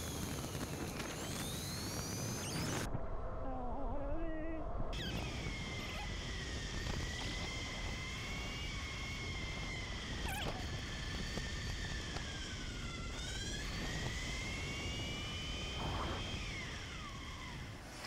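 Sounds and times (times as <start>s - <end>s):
electric bike motor whining: 0.0s - 2.9s, 5.0s - 18.0s
wind and road noise: 0.0s - 18.0s.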